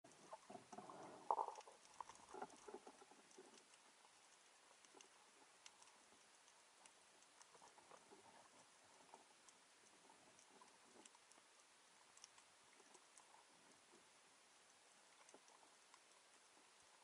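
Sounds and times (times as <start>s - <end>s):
quiet underwater hiss: 0.0s - 17.0s
faint crackling ticks: 0.1s - 17.0s
soft underwater knocks and rustles: 0.1s - 17.0s.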